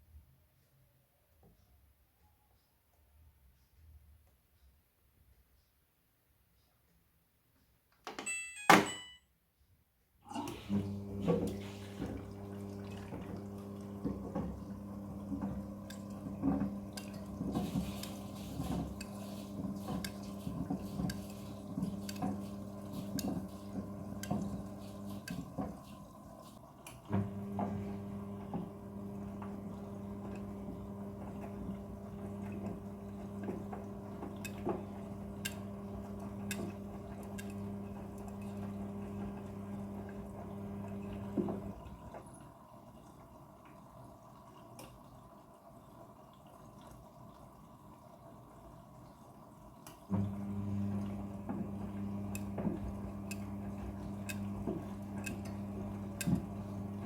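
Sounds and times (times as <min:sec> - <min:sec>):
washing machine hum: 0:08.2 - 0:09.2, 0:10.2 - 0:57.0.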